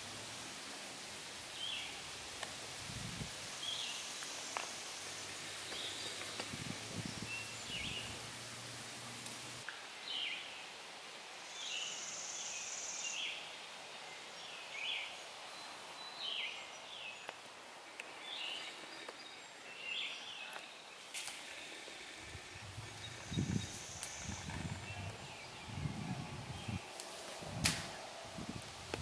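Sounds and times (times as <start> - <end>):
faint outdoor background noise: 0.0 - 29.0.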